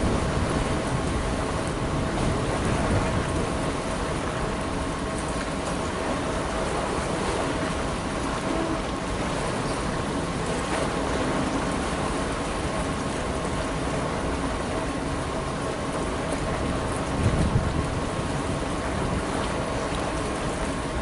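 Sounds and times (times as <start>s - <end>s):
wind buffeting microphone: 0.0s - 14.8s, 15.7s - 21.0s.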